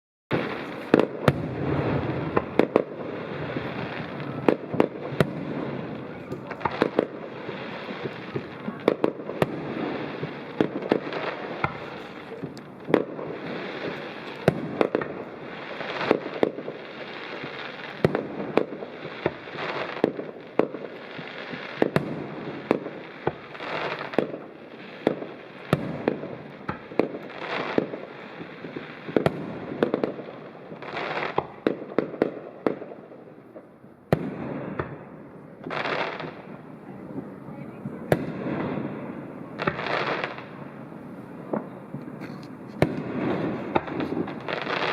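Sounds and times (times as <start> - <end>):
fireworks bangs: 0.3 - 44.9
fireworks crackling: 0.3 - 44.9.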